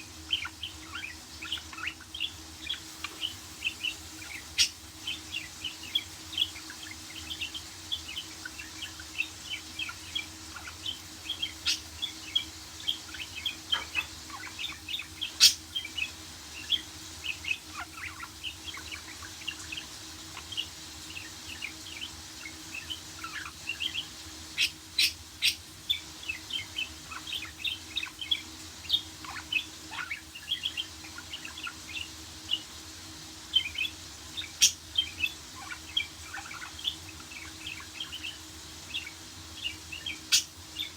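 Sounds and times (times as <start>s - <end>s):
budgerigar chirping: 0.2s - 32.7s, 33.5s - 40.9s.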